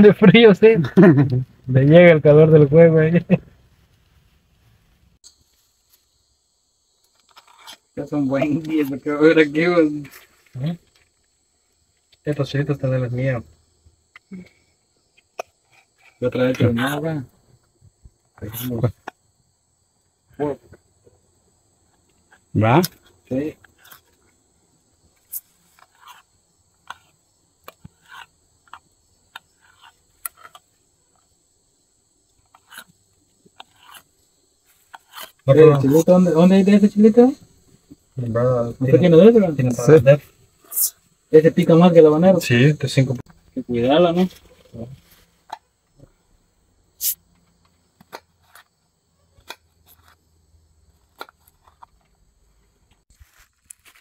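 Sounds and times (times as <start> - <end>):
crickets trilling: 0.0 - 3.9, 5.2 - 54.0.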